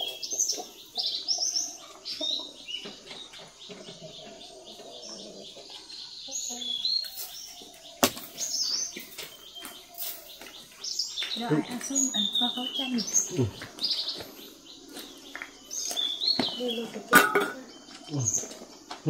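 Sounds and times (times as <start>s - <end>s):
birds chirping: 0.0s - 19.0s
low wavering bird calls: 0.0s - 19.0s.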